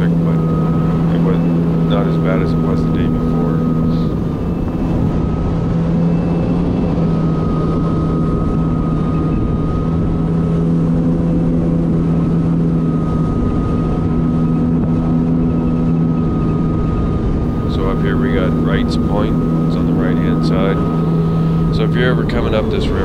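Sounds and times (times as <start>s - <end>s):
jet ski engine humming: 0.0s - 23.0s
thin steady whine: 0.0s - 23.0s
wind: 0.0s - 23.0s.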